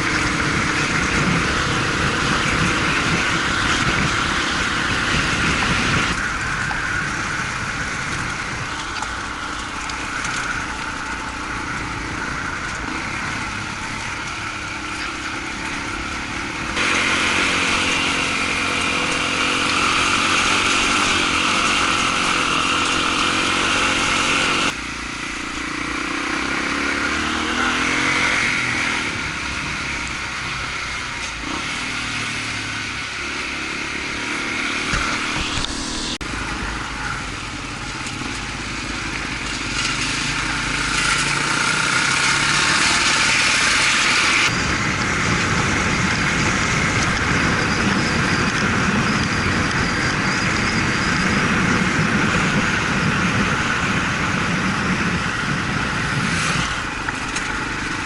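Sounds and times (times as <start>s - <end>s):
motorcycle engine running: 0.0s - 58.0s
steady rushing noise: 0.0s - 58.0s.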